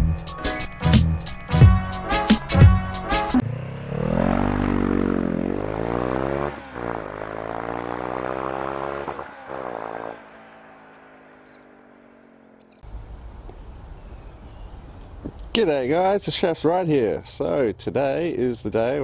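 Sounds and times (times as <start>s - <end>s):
motorcycle engine accelerating: 0.0s - 15.4s.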